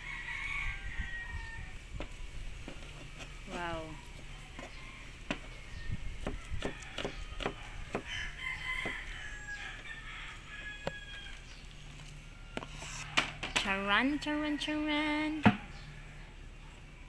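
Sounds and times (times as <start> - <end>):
rooster crowing: 0.0 - 1.9, 4.3 - 16.7.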